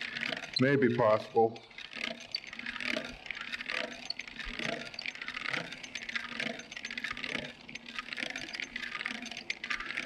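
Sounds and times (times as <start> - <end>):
hand-cranked auger boring wood: 0.0 - 10.0.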